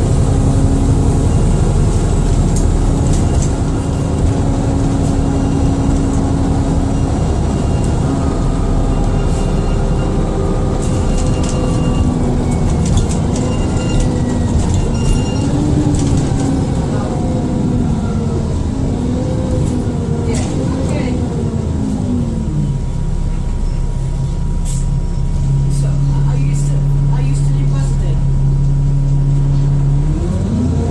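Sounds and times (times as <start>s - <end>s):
bus diesel engine droning: 0.0s - 30.9s.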